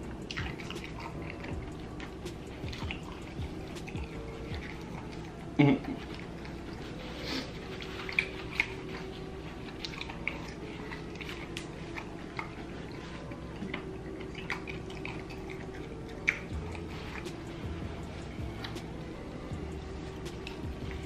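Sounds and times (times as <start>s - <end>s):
wet chewing clicks and smacks: 0.0s - 19.1s, 20.1s - 21.0s
faint hum: 0.0s - 21.0s.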